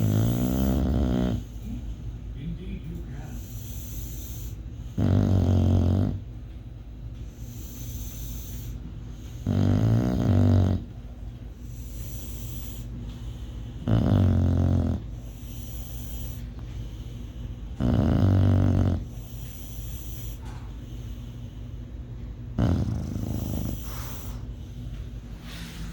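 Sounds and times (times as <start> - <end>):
dog snoring: 0.0 - 2.1, 3.2 - 6.4, 7.2 - 21.8, 22.5 - 24.8.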